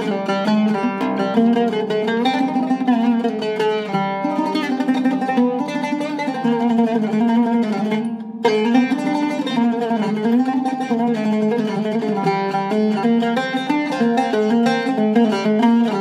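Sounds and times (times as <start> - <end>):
oud plucked with plectrum: 0.0 - 16.0.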